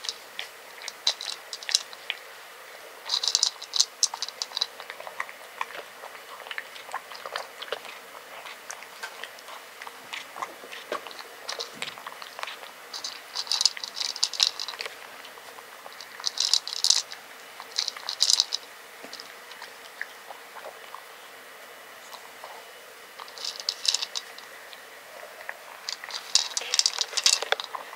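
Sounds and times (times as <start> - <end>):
cat crunching dry kibble: 0.0 - 21.1, 22.1 - 27.9.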